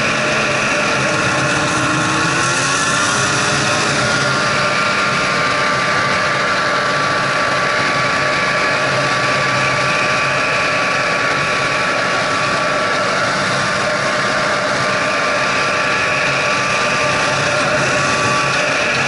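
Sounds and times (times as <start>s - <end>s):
snowmobile engine whining: 0.0s - 19.0s.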